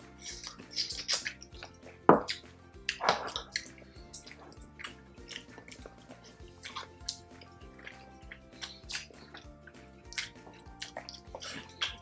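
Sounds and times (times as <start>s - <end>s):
people chewing with lip smacks: 0.0s - 12.0s
quiet background music: 0.0s - 12.0s.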